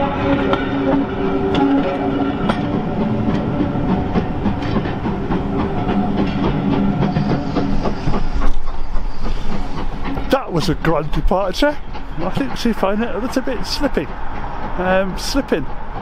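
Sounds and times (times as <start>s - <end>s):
train wheels clicking over rail joints: 0.0s - 16.0s.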